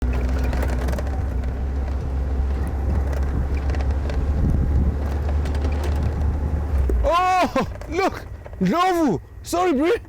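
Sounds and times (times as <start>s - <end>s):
wind buffeting microphone: 0.0s - 8.6s
vehicle engine and road rumble: 0.0s - 10.0s.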